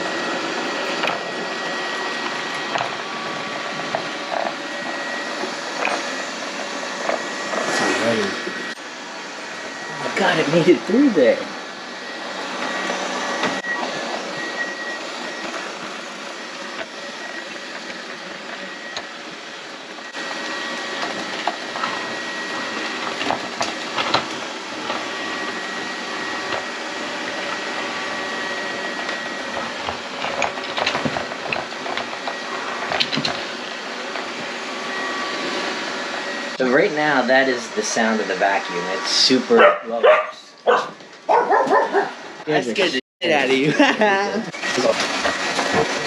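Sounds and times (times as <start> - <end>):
robot vacuum whirring: 0.0 - 46.0.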